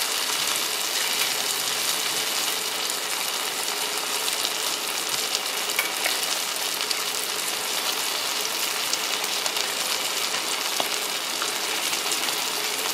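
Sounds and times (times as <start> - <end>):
steak sizzling on hot plate: 0.0 - 12.9.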